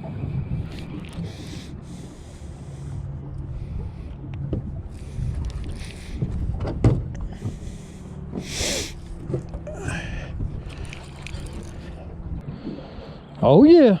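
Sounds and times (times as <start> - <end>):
low rumble of wind and water: 0.0 - 14.0.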